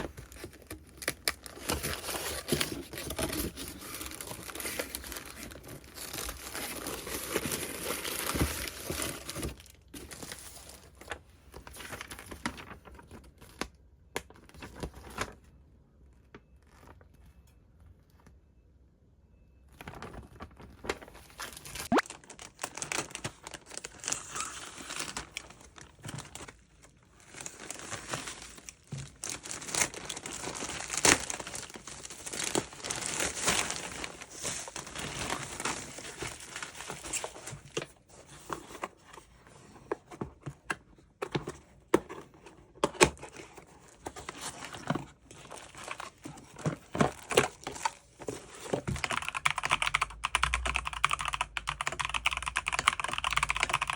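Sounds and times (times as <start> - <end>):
packaging crinkling and rustling: 0.0 - 15.5, 19.7 - 49.4.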